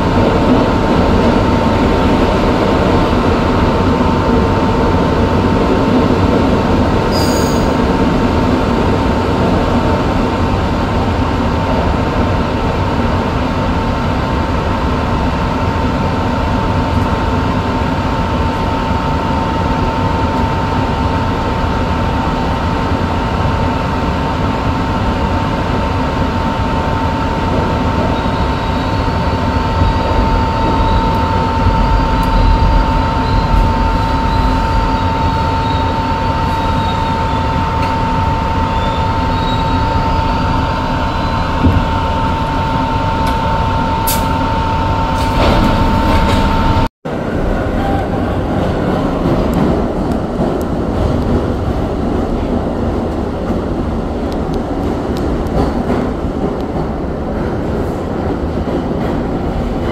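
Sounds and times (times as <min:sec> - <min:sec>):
subway train hum and whine: 0:00.0 - 0:59.9
train rumble in tunnel: 0:00.0 - 0:59.9.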